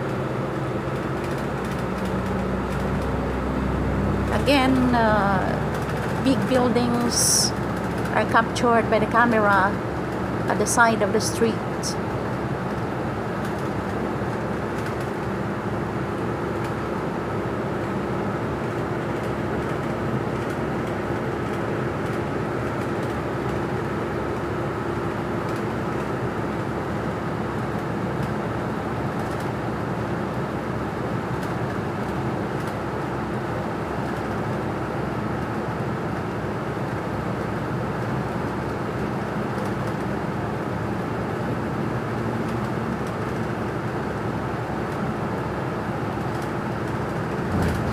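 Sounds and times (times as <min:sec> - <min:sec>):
bus engine and road rumble: 0:00.0 - 0:47.9.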